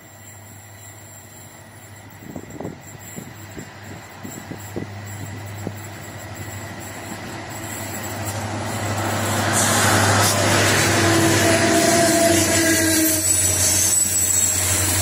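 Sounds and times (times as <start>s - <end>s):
diesel train engine hum: 0.0s - 15.0s
train wheels on rails: 0.0s - 15.0s.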